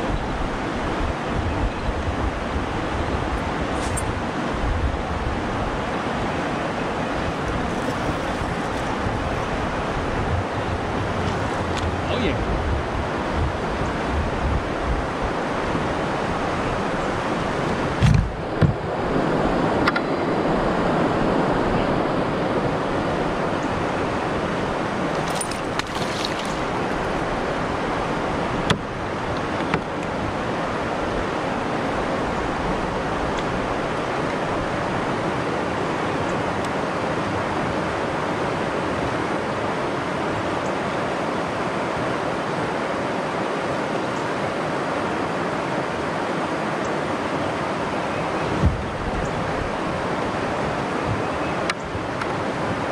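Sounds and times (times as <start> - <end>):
outdoor rushing noise by river: 0.0 - 52.9.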